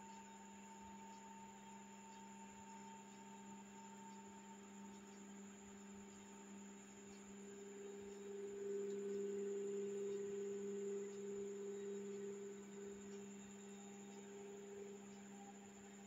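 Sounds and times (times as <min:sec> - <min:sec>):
faint high whine: 0:00.0 - 0:16.0
low hum of held tones: 0:00.0 - 0:16.0.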